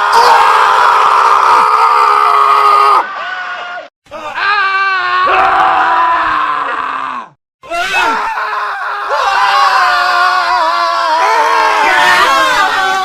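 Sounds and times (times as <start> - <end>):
men screaming: 0.0 - 13.0.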